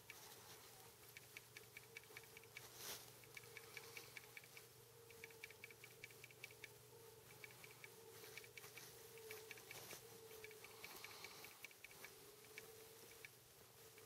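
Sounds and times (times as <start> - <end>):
faint steady hum: 0.0 - 14.0
soft rapid ticks: 0.0 - 14.0.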